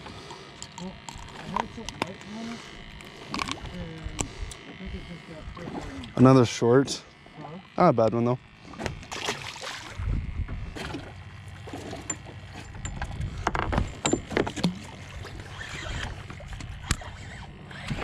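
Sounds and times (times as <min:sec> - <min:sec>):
boat engine rumble: 0:00.0 - 0:18.0.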